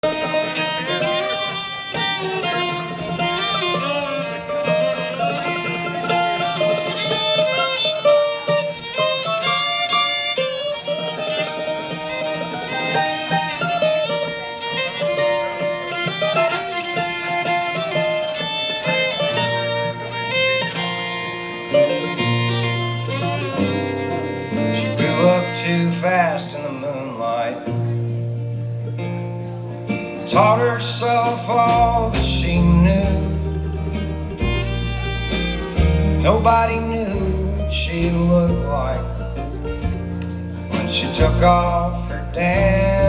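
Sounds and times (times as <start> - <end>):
country band instrumental: 0.0 - 43.0.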